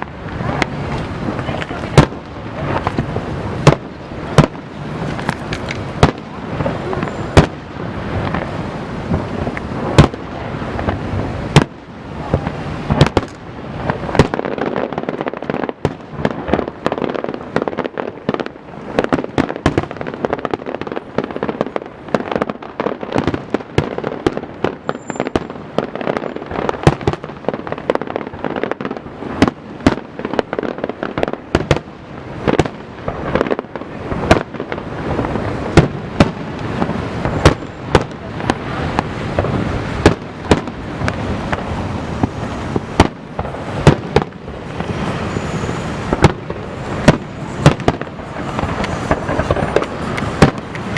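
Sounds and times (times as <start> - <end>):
fireworks bursting: 0.0 - 50.9
rumble and crackle: 0.0 - 50.9.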